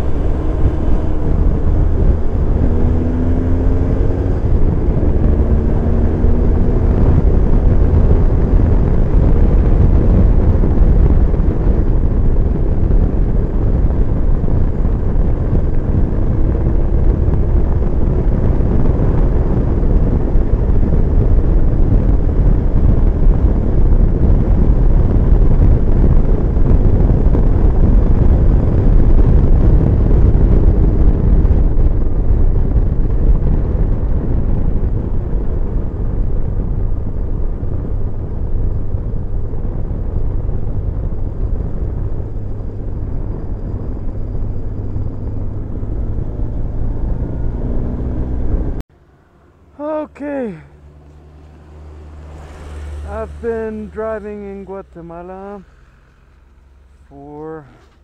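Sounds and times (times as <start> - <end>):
motorcycle engine running: 0.0 - 58.0
wind rushing over helmet camera: 0.0 - 58.0.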